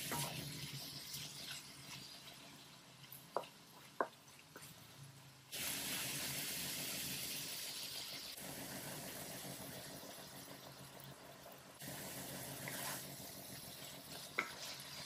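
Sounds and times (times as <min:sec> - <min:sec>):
meat sizzling in a wok: 0:00.0 - 0:15.0.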